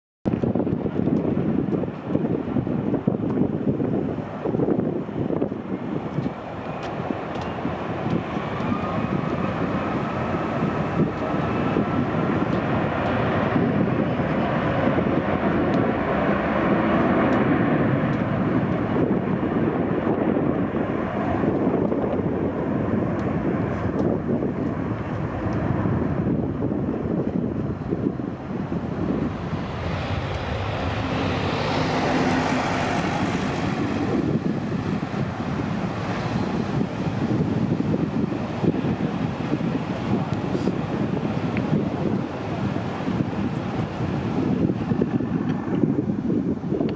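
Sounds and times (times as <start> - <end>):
jet engine roar: 0.3 - 46.9.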